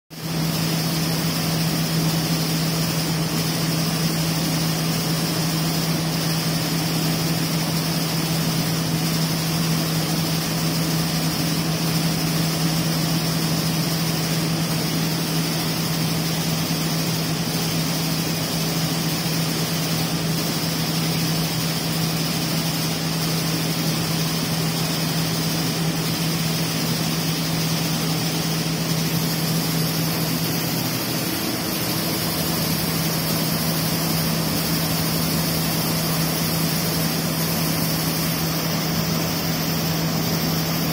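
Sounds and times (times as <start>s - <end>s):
mill machinery humming: 0.2s - 40.9s.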